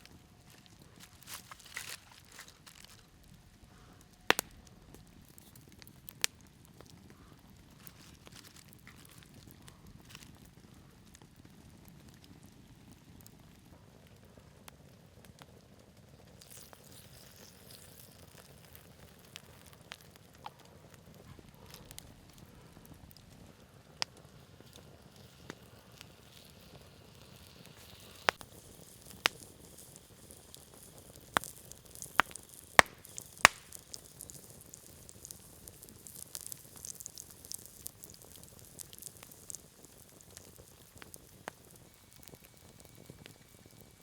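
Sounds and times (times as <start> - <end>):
campfire crackling and popping: 0.0 - 44.0
faint hiss: 0.0 - 44.0.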